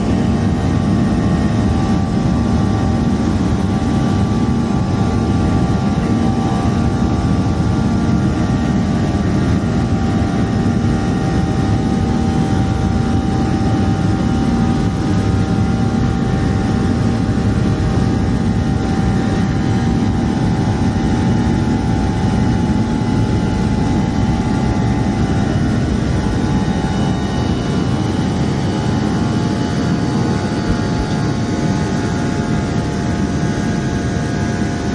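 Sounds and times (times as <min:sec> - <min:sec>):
jet engines rumbling in cabin: 0:00.0 - 0:34.9
steady whining engine tones: 0:00.0 - 0:34.9.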